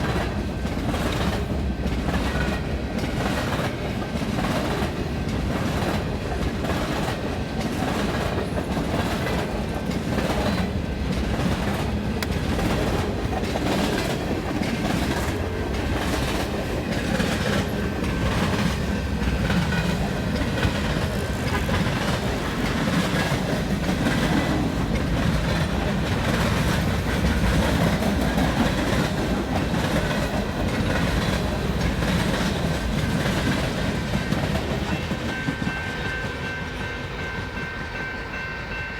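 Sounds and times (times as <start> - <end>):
wheels clacking over rail joints: 0.0 - 38.4
train cars rumbling: 0.0 - 38.9.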